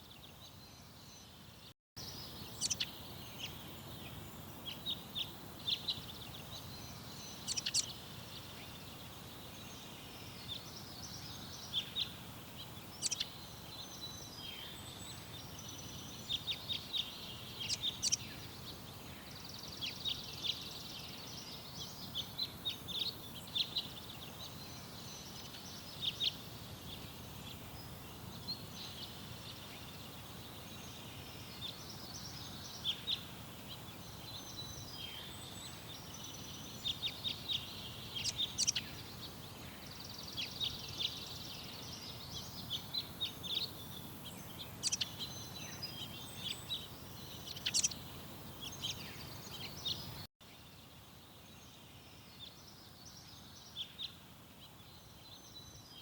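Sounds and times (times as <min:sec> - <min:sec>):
small birds chirping and singing: 0:00.0 - 0:56.0
steady low background noise: 0:00.0 - 0:56.0.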